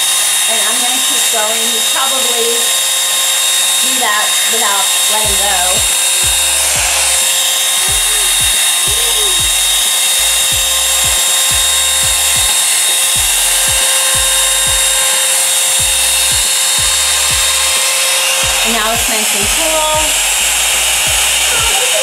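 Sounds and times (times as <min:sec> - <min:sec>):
hot-air brush blowing and whining: 0:00.0 - 0:22.0.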